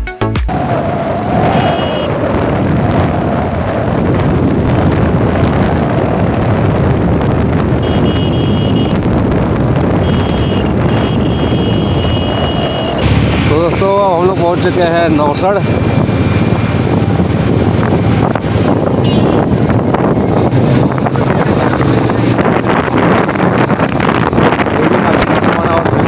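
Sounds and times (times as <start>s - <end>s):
road noise: 0.3s - 26.0s
motorcycle engine: 0.5s - 26.0s
wind buffeting microphone: 0.5s - 26.0s.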